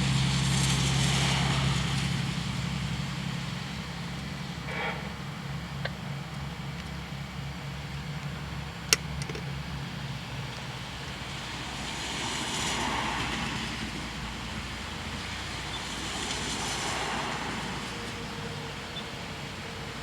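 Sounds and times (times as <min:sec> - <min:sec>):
tyres hissing on wet road: 0:00.0 - 0:08.8, 0:09.7 - 0:20.0.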